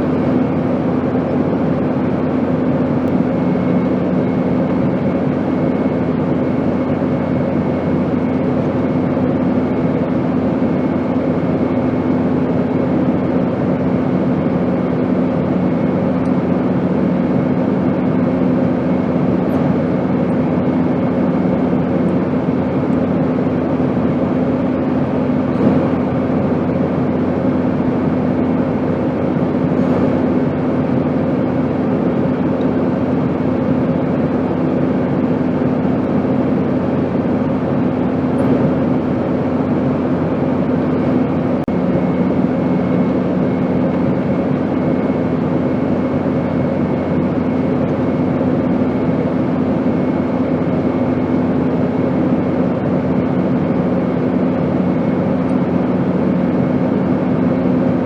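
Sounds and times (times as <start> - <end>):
airplane engine drone: 0.0 - 58.0
lower hum: 0.0 - 58.0.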